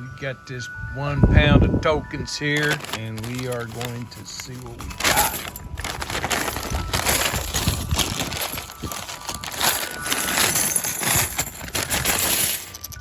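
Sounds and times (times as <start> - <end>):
tokens clattering: 2.5 - 13.0
bag crinkling: 2.6 - 13.0.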